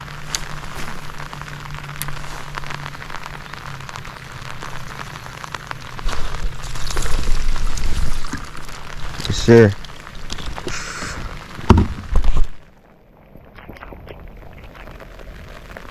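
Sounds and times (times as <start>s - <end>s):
rain pattering: 0.0s - 15.9s.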